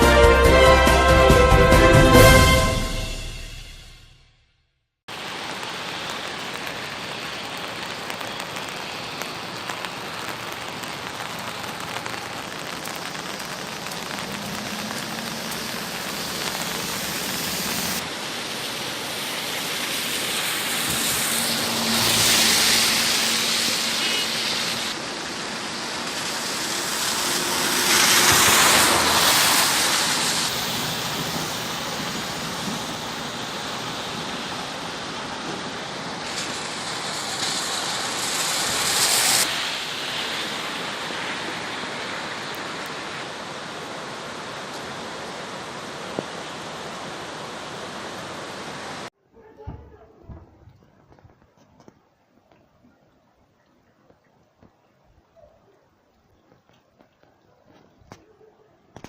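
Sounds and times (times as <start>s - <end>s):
heavy rain: 0.0s - 3.7s, 5.1s - 49.1s.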